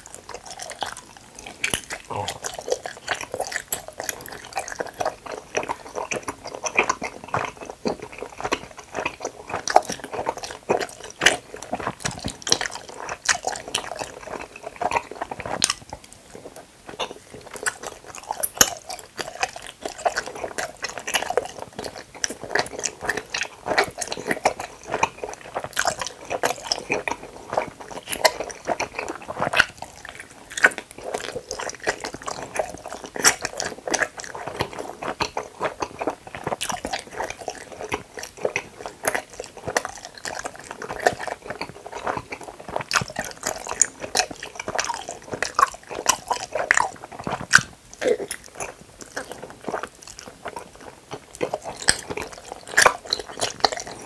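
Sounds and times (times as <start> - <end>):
wet chewing clicks and smacks: 0.0 - 54.0.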